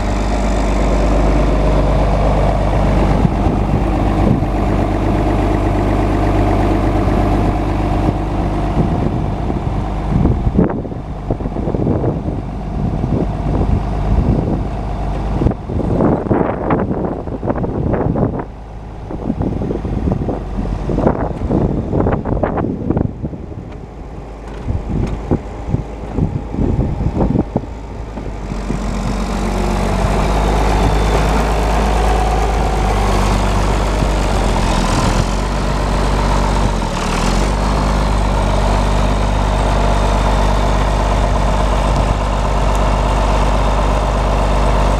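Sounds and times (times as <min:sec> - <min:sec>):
diesel tractor engine idling: 0:00.0 - 0:44.9
wind gusts on microphone: 0:00.0 - 0:44.9.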